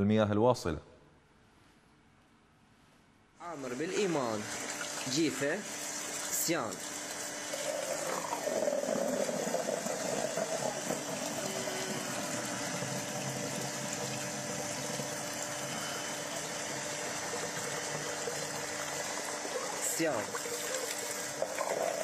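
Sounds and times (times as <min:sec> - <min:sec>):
electric water pump humming: 0:03.4 - 0:22.0
tap water pouring into a bucket: 0:03.8 - 0:22.0.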